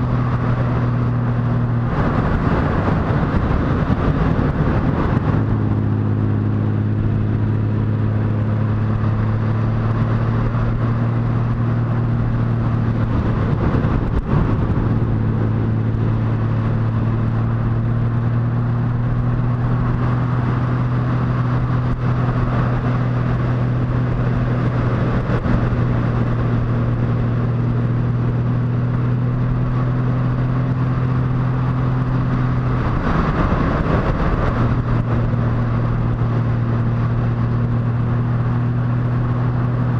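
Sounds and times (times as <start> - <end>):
motorcycle engine cruising: 0.0 - 39.9
road noise rushing: 0.0 - 39.9.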